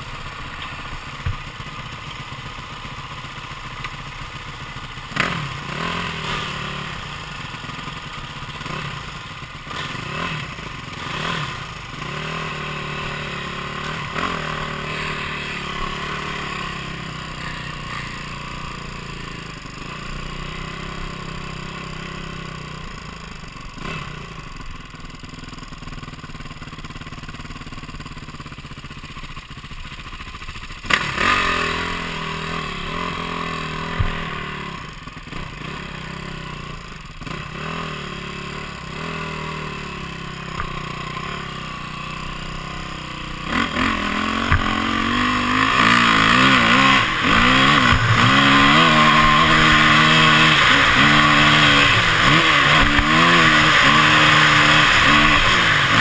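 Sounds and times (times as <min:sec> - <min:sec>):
dirt bike engine revving: 0:00.0 - 0:28.6, 0:30.0 - 0:56.0.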